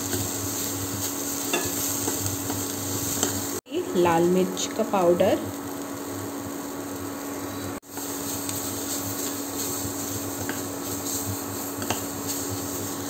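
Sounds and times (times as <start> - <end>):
onions frying in oil: 0.0 - 13.0.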